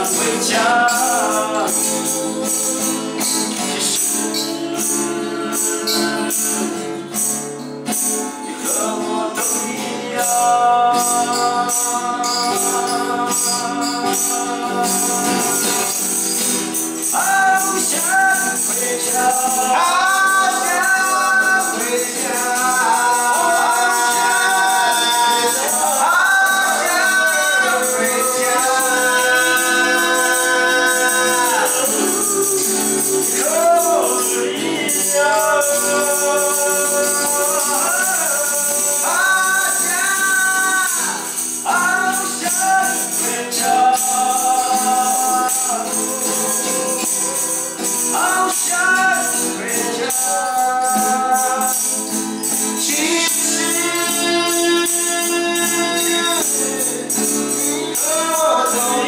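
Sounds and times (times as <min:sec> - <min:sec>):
man singing long notes: 0:00.0 - 0:07.2, 0:08.5 - 0:59.0
acoustic guitars strumming: 0:00.0 - 0:59.0
tambourine jingling: 0:00.0 - 0:59.0.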